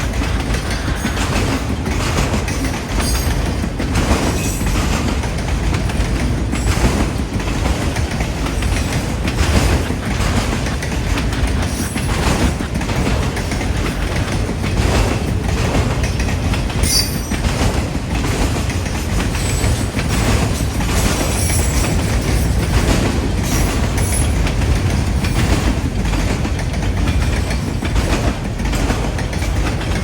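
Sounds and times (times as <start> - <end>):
train wheels clicking over track: 0.0 - 30.0.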